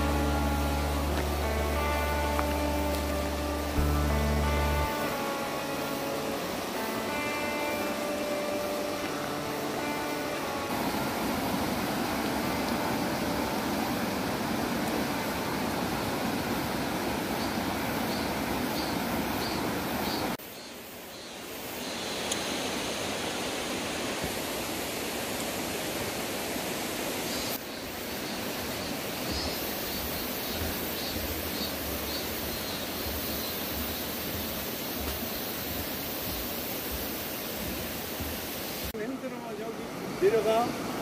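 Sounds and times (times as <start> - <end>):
stream flowing over rocks: 0.0 - 20.4, 22.1 - 41.0.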